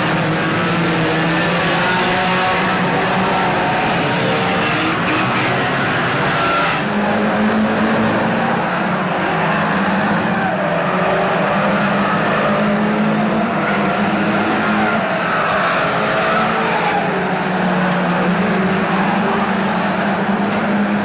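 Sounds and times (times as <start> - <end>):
racing car engines droning: 0.0 - 21.0.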